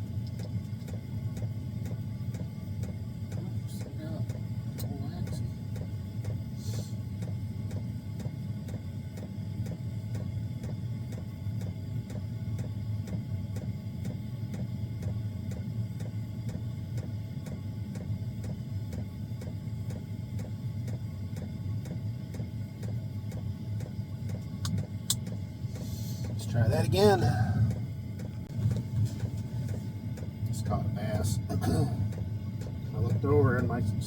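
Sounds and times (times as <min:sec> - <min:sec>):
heater combustion fan humming: 0:00.0 - 0:34.0
fuel pump ticking: 0:00.1 - 0:34.0.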